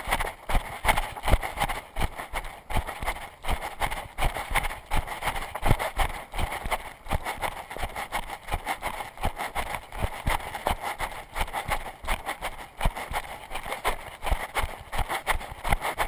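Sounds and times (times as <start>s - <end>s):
running footsteps on dirt: 0.0s - 16.0s.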